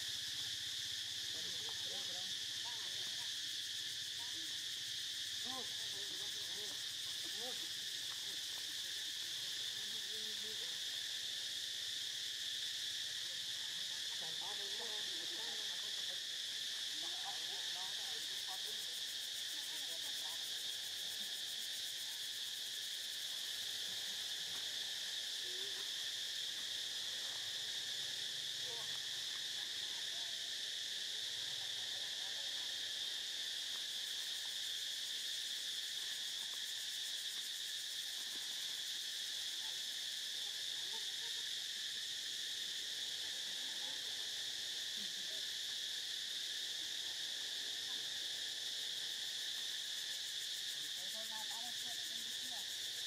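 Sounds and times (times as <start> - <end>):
high-pitched insect chorus: 0.0 - 53.0.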